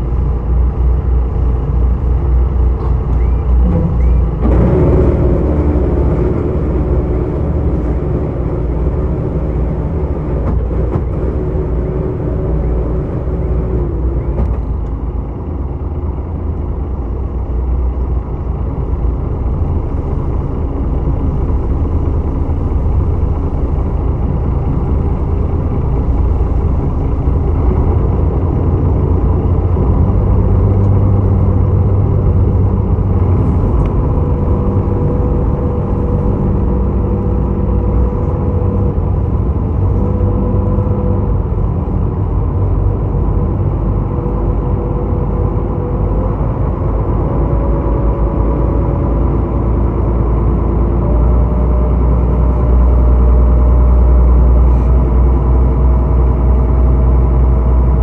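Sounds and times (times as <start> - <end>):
boat engine droning: 0.0 - 58.0
pitched engine tones: 0.0 - 58.0.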